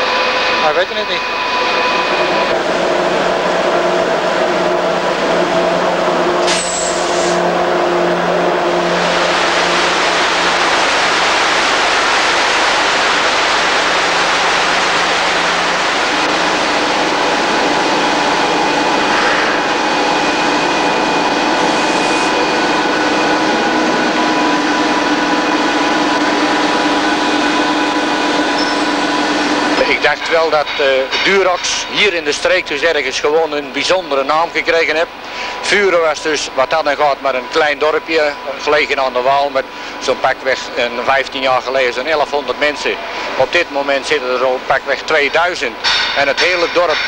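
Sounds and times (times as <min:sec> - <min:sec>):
factory machinery humming: 0:00.0 - 0:47.0.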